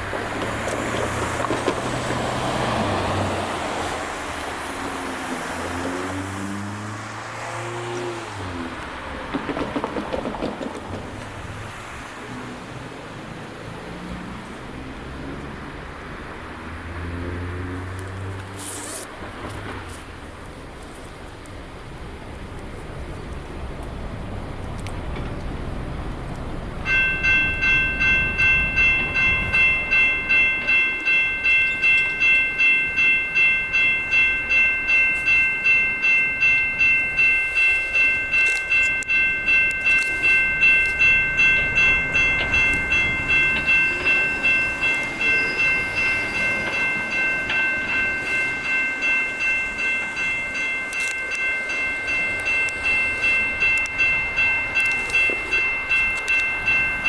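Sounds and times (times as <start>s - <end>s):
railroad crossing bells ringing: 0.0s - 18.8s, 20.5s - 57.0s.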